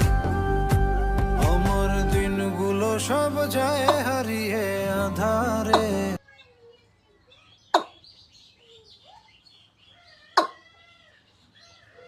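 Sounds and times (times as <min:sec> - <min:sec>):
birds chirping: 0:01.6 - 0:12.0.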